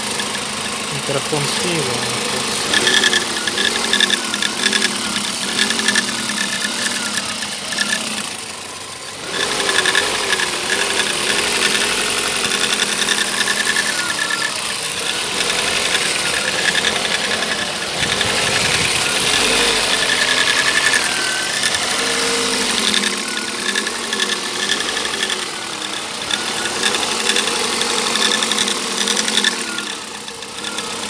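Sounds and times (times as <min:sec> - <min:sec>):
car engine running: 0:00.0 - 0:31.0
engine ringing rattle: 0:00.0 - 0:31.0.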